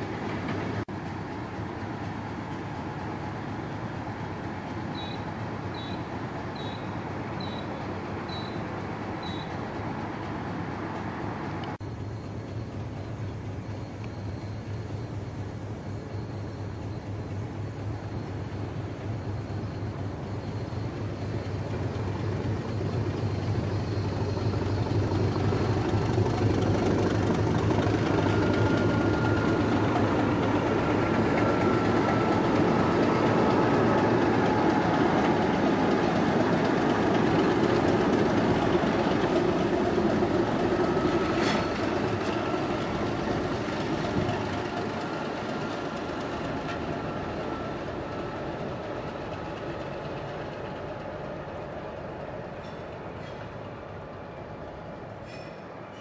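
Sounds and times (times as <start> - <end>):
diesel locomotive engines rumbling: 0.0 - 56.0
wheels on rails: 0.0 - 56.0.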